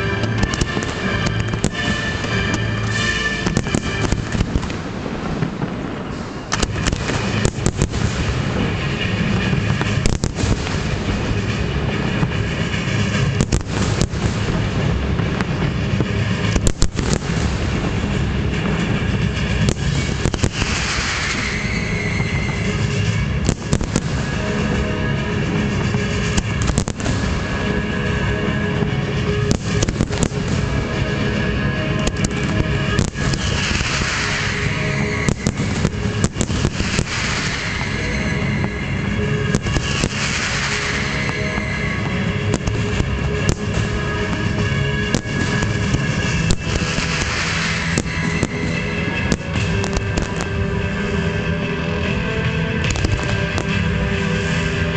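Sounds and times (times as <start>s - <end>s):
fireworks shells bursting: 0.0s - 51.1s
music playing: 0.0s - 54.9s
steady low rumble: 0.0s - 54.9s.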